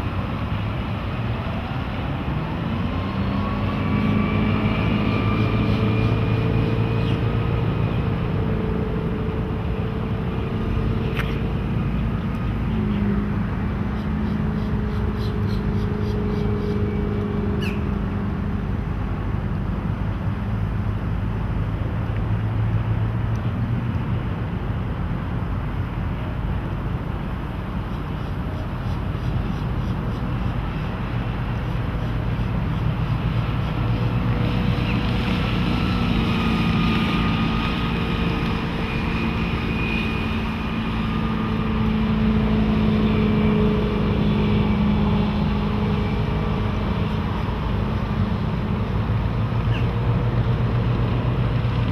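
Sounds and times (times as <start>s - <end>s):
boat engine running: 0.0s - 51.9s
water noise: 0.0s - 51.9s
wind: 0.0s - 51.9s.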